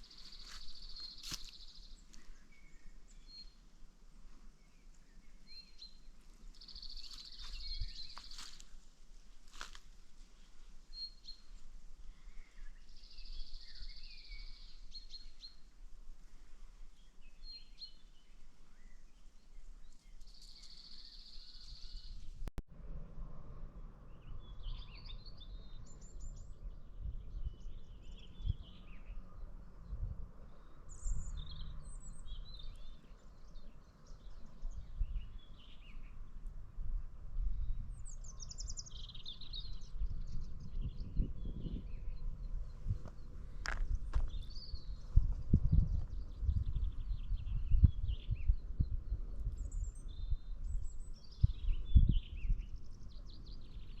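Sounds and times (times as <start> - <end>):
birds singing and chirping: 0.0 - 3.7, 4.6 - 8.8, 10.9 - 15.7, 17.0 - 22.4, 24.1 - 36.4, 37.0 - 54.0.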